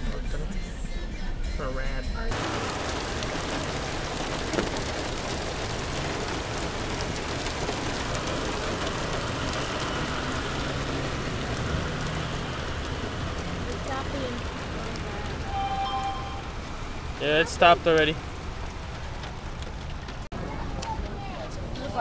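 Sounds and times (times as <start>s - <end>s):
heavy rain on wet asphalt: 2.3s - 22.0s.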